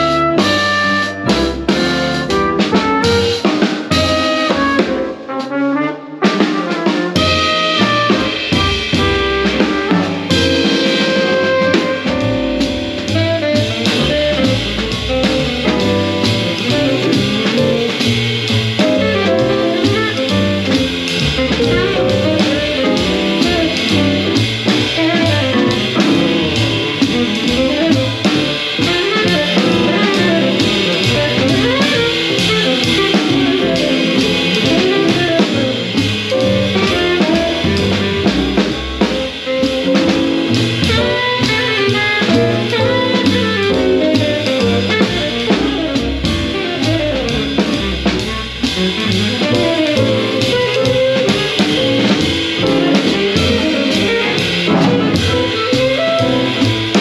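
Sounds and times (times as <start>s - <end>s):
live acoustic drum kit: 0.0s - 57.0s
up-tempo jazz band: 0.0s - 57.0s.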